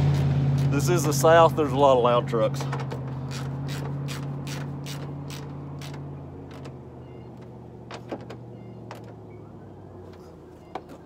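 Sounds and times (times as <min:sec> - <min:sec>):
truck engine drone: 0:00.0 - 0:11.0.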